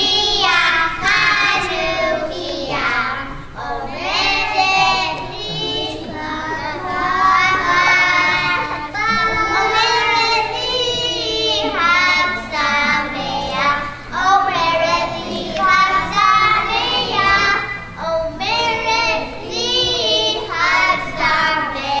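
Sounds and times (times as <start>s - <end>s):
children singing: 0.0s - 22.0s.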